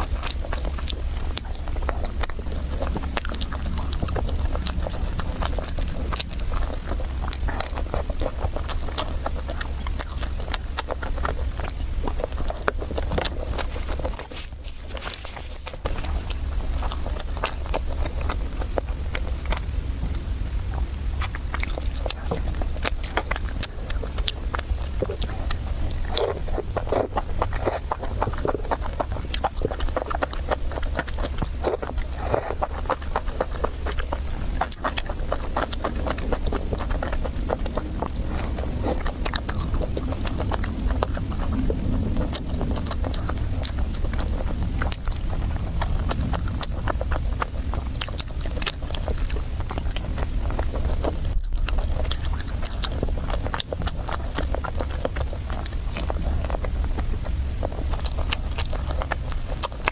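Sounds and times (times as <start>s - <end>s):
constant low hum: 0.0s - 59.9s
wet chewing and mouth smacking: 0.0s - 59.9s.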